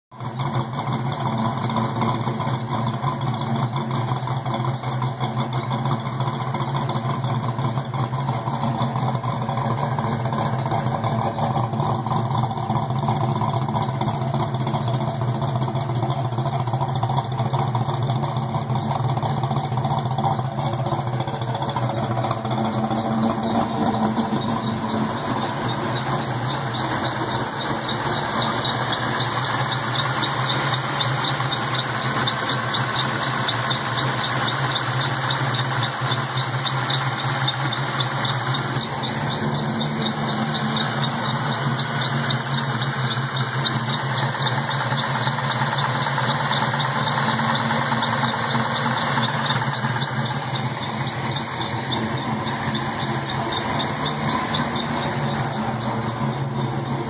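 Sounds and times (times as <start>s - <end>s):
car engine idling: 0.1s - 57.0s.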